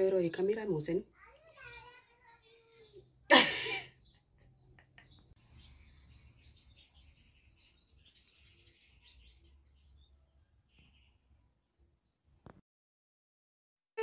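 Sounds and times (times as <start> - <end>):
faint high bird chirping: 0.0 - 12.2.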